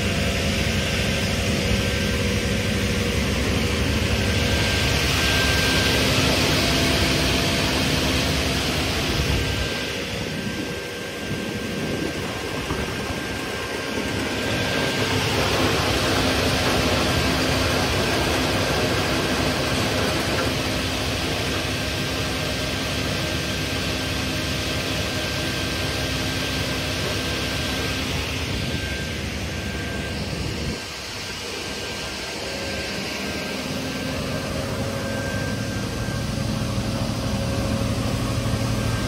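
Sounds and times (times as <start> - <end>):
saw running with drone: 0.0 - 39.0.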